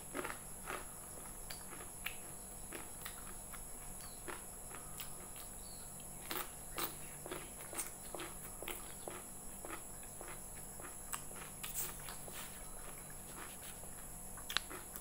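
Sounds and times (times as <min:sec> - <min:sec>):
faint steady hum: 0:00.0 - 0:15.0
person chewing food: 0:00.0 - 0:15.0.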